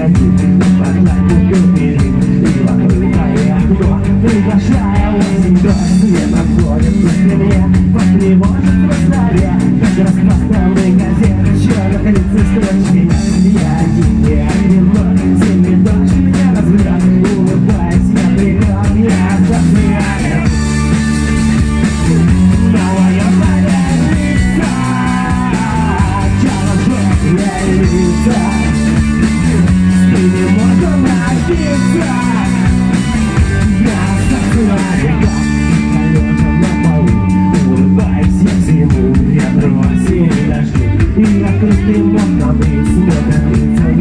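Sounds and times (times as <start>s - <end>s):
man singing: 0.0s - 20.9s, 21.7s - 44.0s
rock band playing live: 0.0s - 44.0s.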